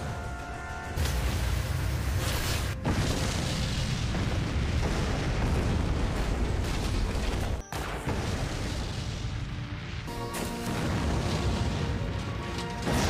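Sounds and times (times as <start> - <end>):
fire burning: 0.0 - 13.0
rumbling explosion blast: 1.0 - 13.0.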